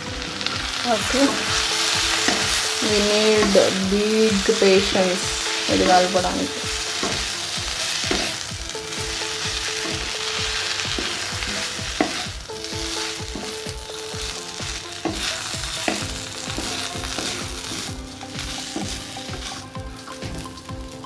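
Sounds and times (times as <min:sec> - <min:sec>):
noodles sizzling in a pan: 0:00.0 - 0:21.0
spatula knocking and scraping pan: 0:00.4 - 0:20.9.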